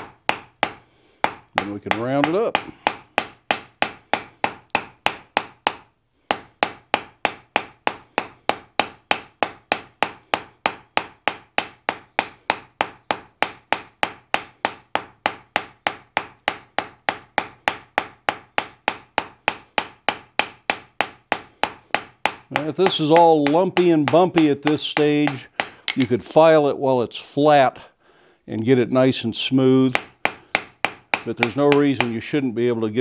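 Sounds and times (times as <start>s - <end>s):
hammer striking steel on anvil: 0.0s - 26.1s, 29.9s - 32.3s.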